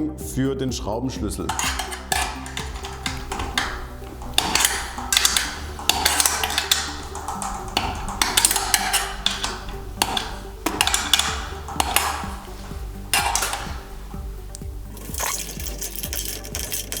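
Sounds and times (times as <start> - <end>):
background music: 0.0 - 17.0
spanner clinking on bolts: 1.5 - 17.0.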